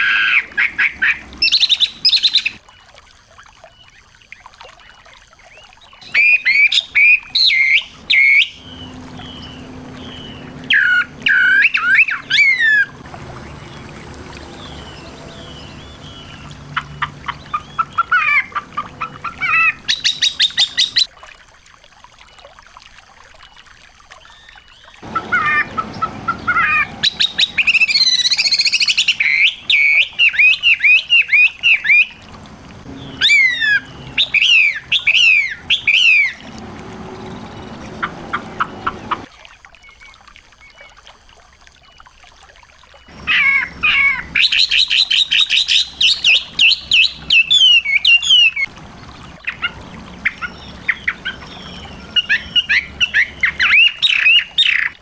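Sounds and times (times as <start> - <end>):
songbirds singing: 0.0 - 21.1, 23.4 - 41.0, 42.9 - 55.0.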